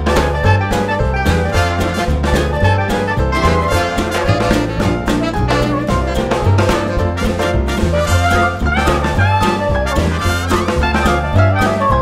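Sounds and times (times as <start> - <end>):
upbeat swing brass band: 0.0 - 12.0.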